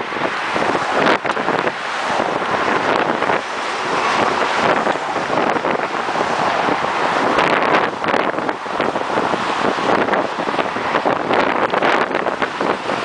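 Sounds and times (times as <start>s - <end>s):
car traffic passing close: 0.0s - 13.0s
wind buffeting microphone: 0.0s - 13.0s.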